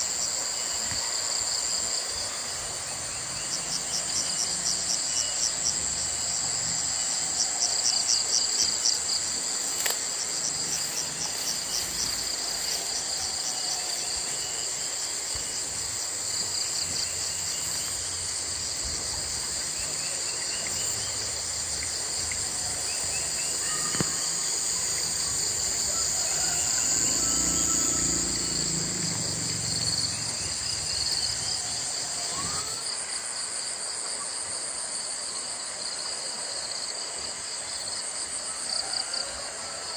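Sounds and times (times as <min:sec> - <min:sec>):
insects trilling and buzzing: 0:00.0 - 0:39.9.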